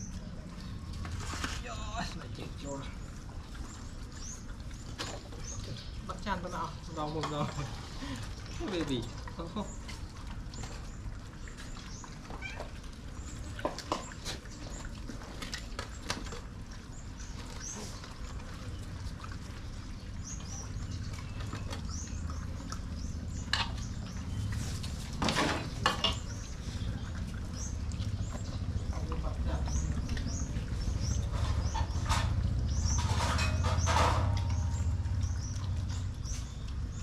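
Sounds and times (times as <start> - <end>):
dogs feeding clicks and knocks: 3.0 - 7.9, 8.5 - 37.0.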